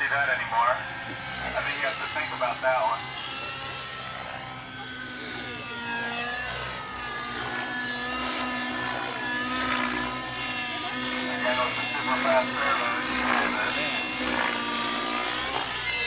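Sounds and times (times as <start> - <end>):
model helicopter engine and rotor: 0.0 - 16.0.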